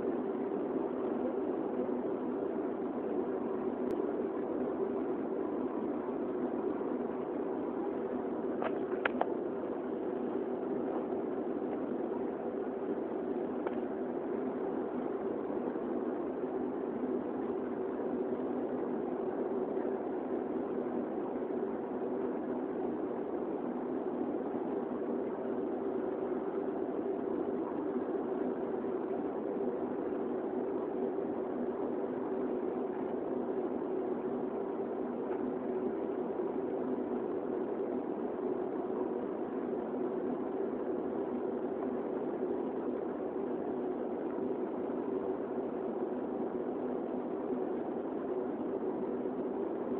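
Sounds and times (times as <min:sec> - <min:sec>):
airliner engine and cabin hum: 0:00.0 - 0:49.9.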